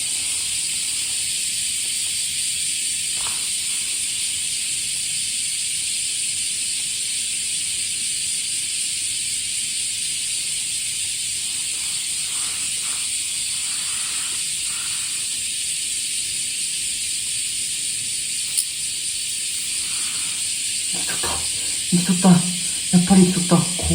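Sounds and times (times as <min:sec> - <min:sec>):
cicadas droning: 0:00.0 - 0:23.9.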